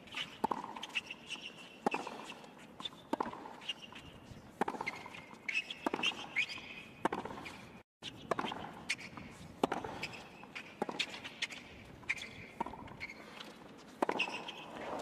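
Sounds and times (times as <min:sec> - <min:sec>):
racket hitting tennis ball: 0:00.1 - 0:15.0
shoe squeaks on court: 0:00.1 - 0:15.0.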